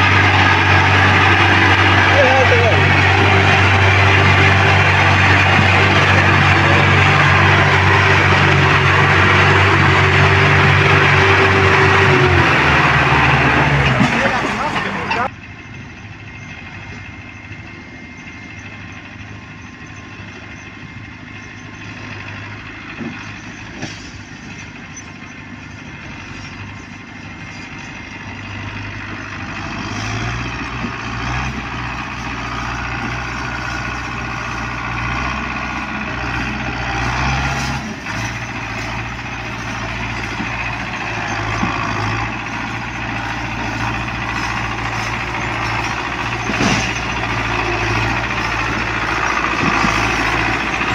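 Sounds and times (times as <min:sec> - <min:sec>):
tractor diesel engine labouring: 0:00.0 - 0:50.9.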